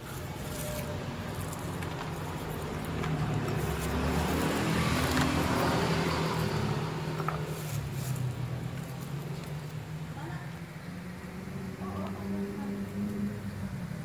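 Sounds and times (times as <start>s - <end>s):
low traffic hum: 0.0s - 14.0s
vehicle passing: 0.0s - 14.0s.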